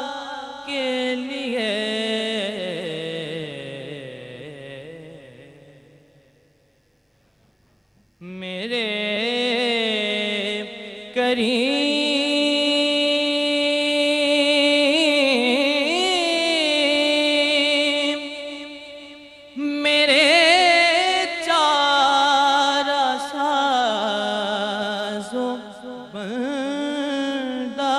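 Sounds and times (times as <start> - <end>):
man singing into a microphone: 0.0 - 6.1, 8.2 - 27.9.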